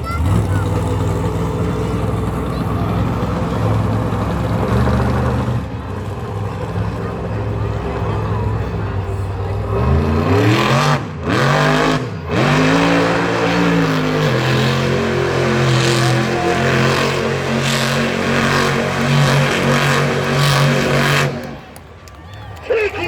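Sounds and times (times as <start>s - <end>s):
truck engine revving hard: 0.0s - 21.8s.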